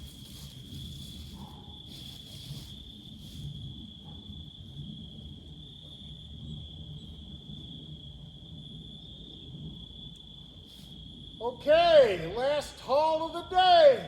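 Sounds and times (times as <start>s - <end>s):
insects chirring high: 0.0s - 14.0s.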